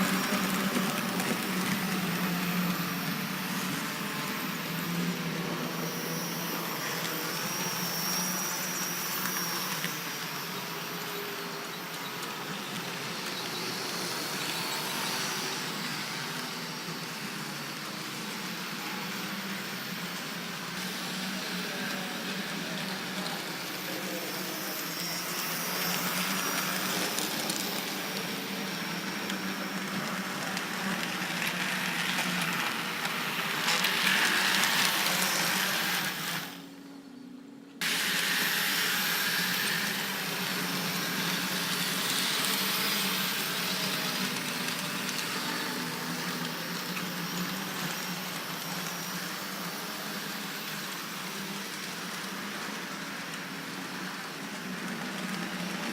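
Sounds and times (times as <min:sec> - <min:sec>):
wheels hissing on track: 0:00.0 - 0:36.8, 0:37.8 - 0:55.9
small electric motors whirring: 0:00.0 - 0:36.9, 0:37.8 - 0:55.9.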